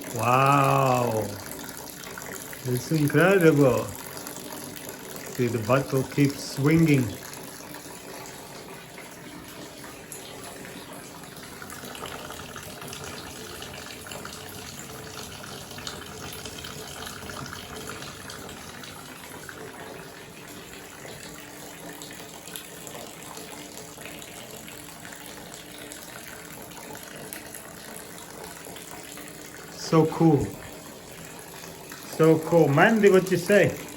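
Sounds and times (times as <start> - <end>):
water pouring into bowl: 0.0 - 33.9.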